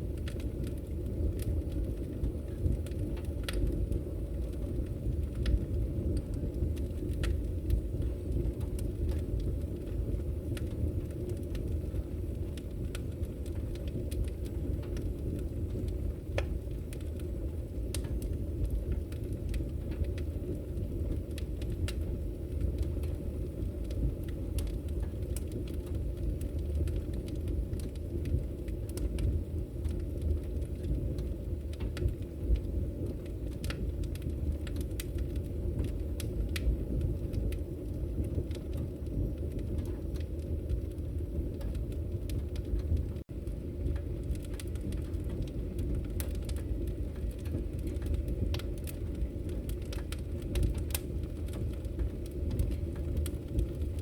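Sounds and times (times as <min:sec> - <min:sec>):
burning logs crackling and popping: 0:00.0 - 0:54.0
fire flames rumbling: 0:00.0 - 0:54.0.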